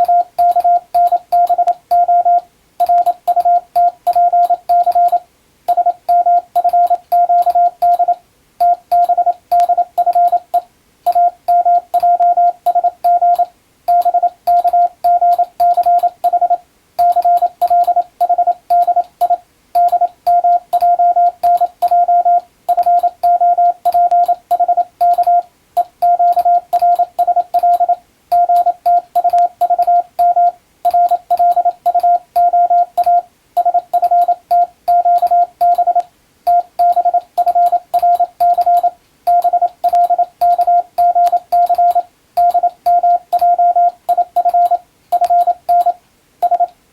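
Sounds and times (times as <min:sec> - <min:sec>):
morse code beeps: 0:00.0 - 0:46.7.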